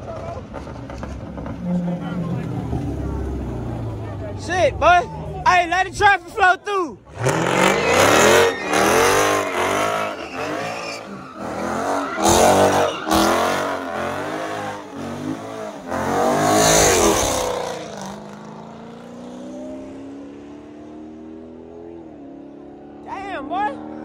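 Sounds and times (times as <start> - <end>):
tires squealing: 0.0 - 20.0
car engine revving: 0.4 - 5.8, 7.0 - 24.0.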